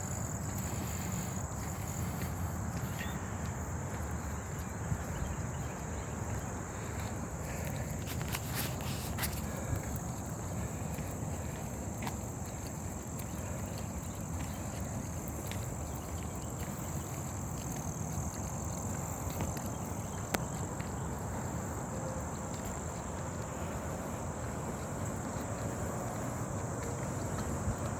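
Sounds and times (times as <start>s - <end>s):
insect chorus: 0.0s - 27.9s.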